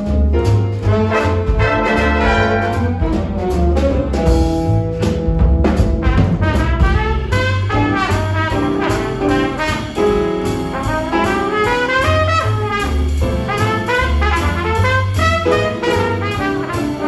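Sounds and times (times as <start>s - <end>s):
jazz big band swing: 0.0s - 17.0s
trumpet solo: 0.8s - 5.1s, 5.7s - 17.0s.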